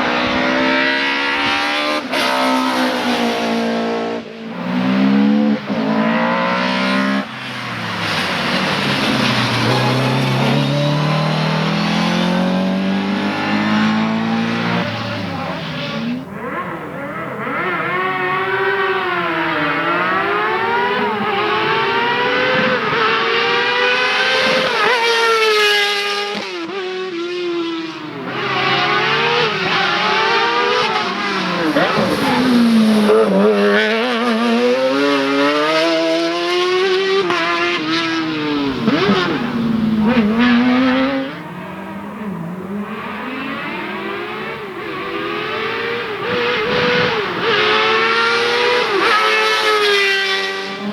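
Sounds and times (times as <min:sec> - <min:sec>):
race car engine at full throttle: 0:00.0 - 0:50.9.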